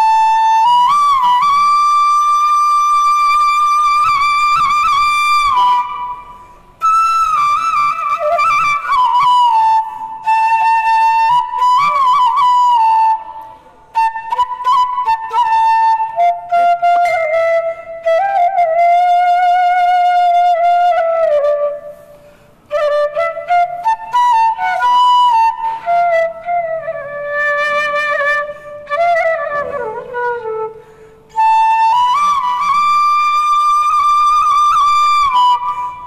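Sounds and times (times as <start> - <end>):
bamboo flute playing: 0.0 - 36.0.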